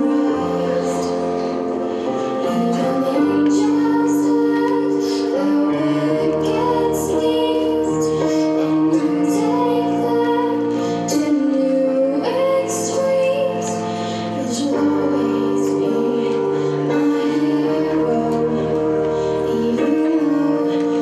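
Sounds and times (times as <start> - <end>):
instrumental accompaniment: 0.0 - 21.0
woman singing slow melody: 0.0 - 21.0.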